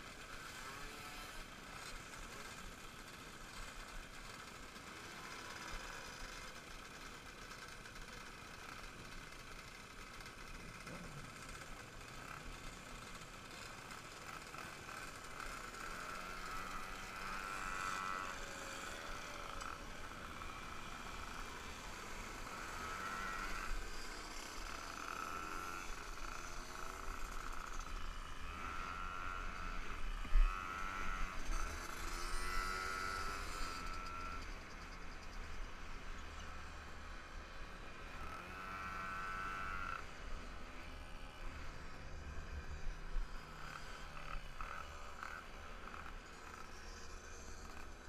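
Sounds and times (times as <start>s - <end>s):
moped engines revving: 0.0s - 48.0s.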